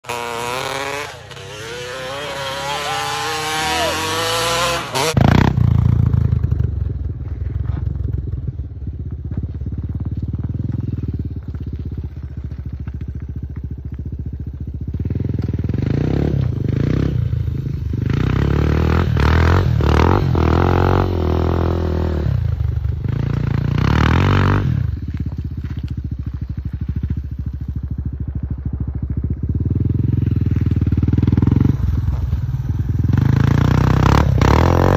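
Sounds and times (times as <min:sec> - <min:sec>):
dirt bike engines revving: 0:00.0 - 0:06.1, 0:10.1 - 0:34.9
dirt bikes idling: 0:00.0 - 0:34.9.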